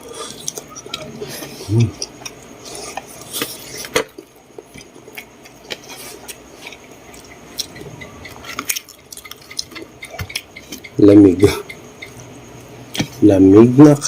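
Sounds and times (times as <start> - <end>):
wet chewing: 0.2 - 12.3.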